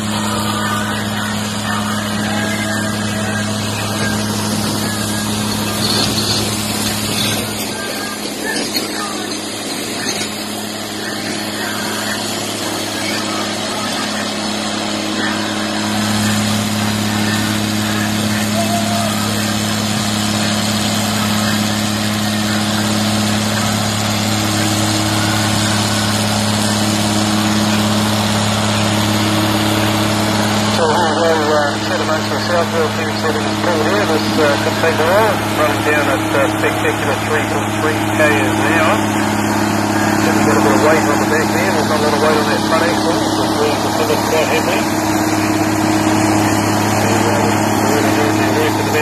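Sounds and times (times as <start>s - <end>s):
tractor diesel engine working hard: 0.0s - 49.0s.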